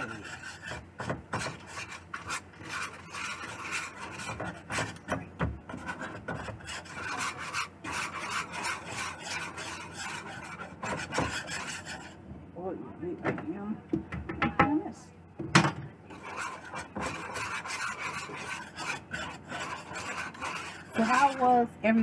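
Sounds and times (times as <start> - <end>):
whisk scraping metal bowl: 0.0 - 12.2, 16.1 - 22.0.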